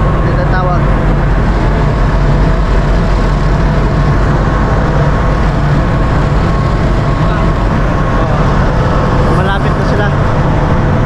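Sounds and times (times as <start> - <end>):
deep drone of marine diesel machinery: 0.0 - 11.0
faint steady whine: 0.0 - 11.0.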